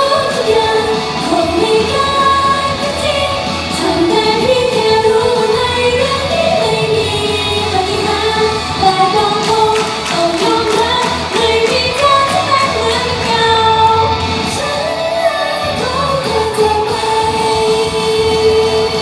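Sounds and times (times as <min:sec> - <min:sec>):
pop song with female vocals: 0:00.0 - 0:19.0.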